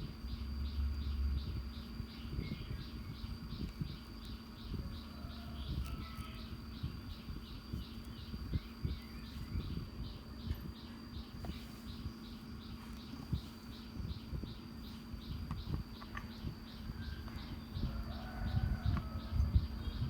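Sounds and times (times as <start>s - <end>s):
insect chirping: 0.0s - 20.0s
low steady hum: 0.0s - 20.0s.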